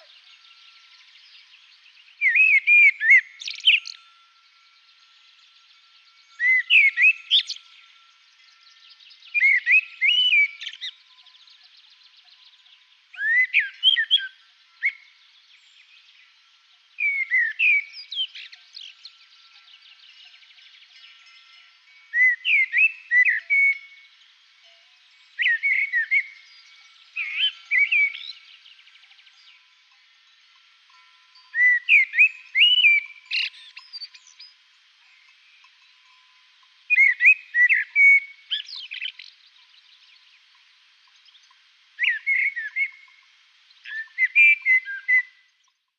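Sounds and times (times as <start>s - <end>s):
songbird warbling: 0.0s - 4.2s, 5.0s - 45.5s.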